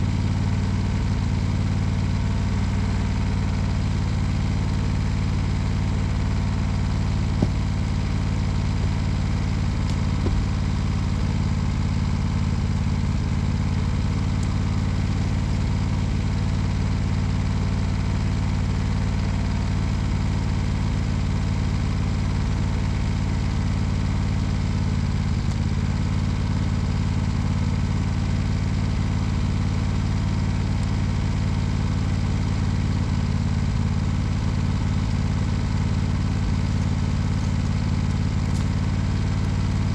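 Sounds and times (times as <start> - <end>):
small petrol engine idling: 0.0 - 39.9.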